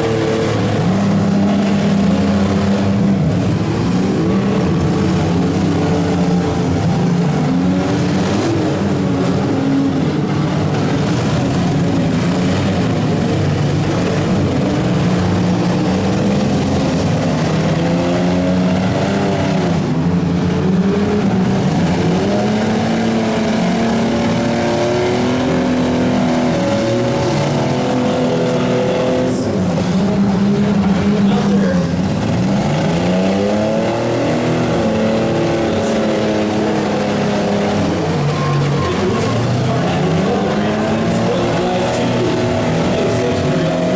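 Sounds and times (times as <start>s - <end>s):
vehicle engines revving: 0.0s - 43.9s.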